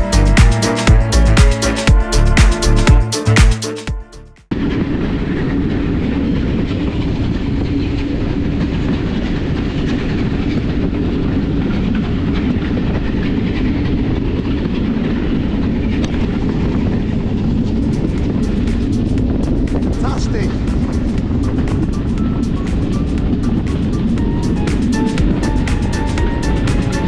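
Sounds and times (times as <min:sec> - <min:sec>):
train wheels rumbling on rails: 0:04.5 - 0:27.0.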